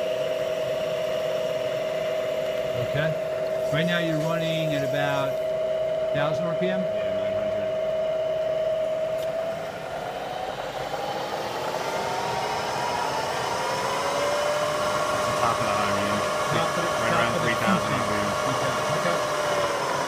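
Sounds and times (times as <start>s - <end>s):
milling machine whine rising in pitch: 0.0s - 20.0s.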